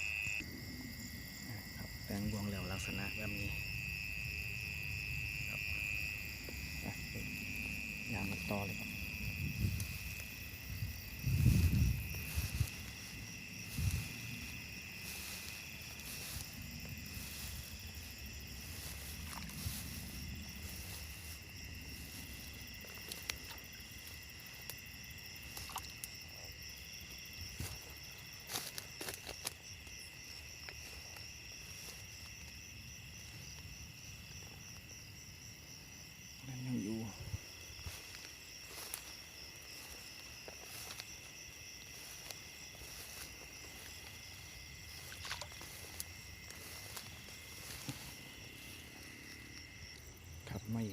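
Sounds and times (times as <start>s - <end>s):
insect chorus trilling: 0.0s - 50.9s.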